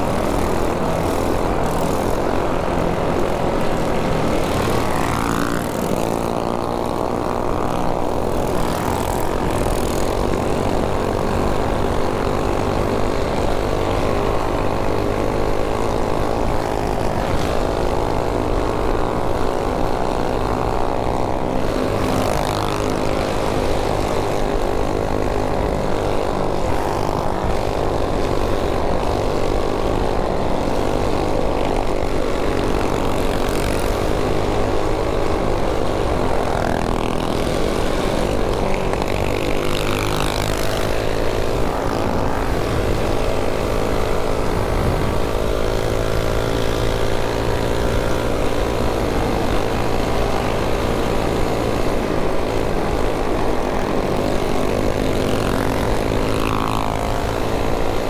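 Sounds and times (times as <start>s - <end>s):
mini bike engines droning: 0.0s - 58.0s.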